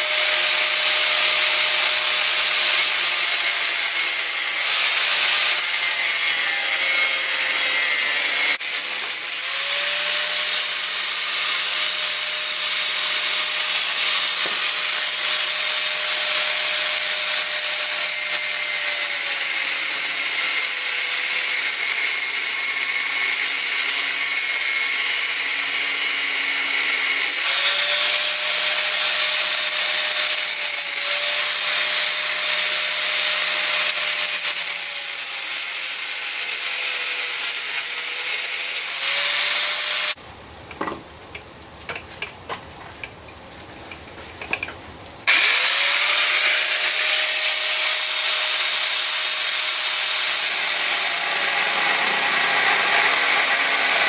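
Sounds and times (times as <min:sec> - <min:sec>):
angle grinder cutting steel: 0:00.0 - 0:40.2, 0:45.2 - 0:54.0.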